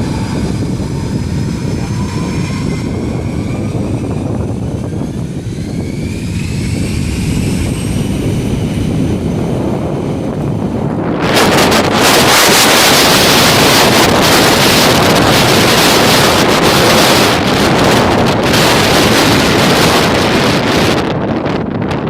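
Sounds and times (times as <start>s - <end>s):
jet engines at takeoff thrust: 0.0s - 22.0s
wind buffeting microphone: 0.0s - 22.0s.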